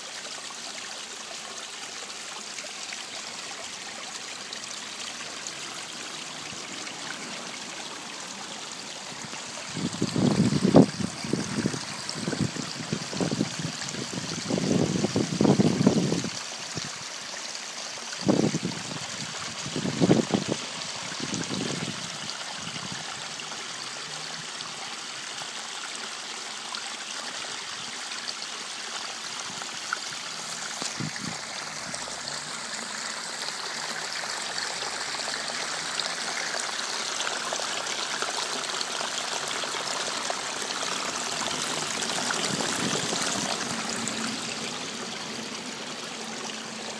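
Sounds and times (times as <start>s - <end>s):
waterfall rushing and splashing: 0.0s - 46.9s.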